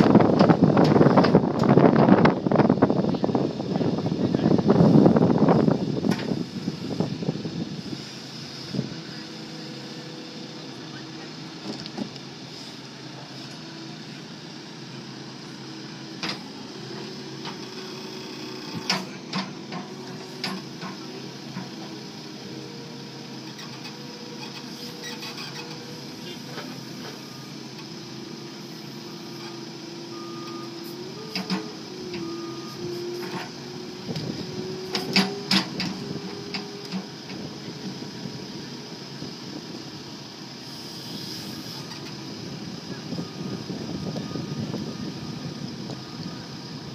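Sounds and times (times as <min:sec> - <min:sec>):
backhoe diesel engine and hydraulics: 0:00.0 - 0:46.9.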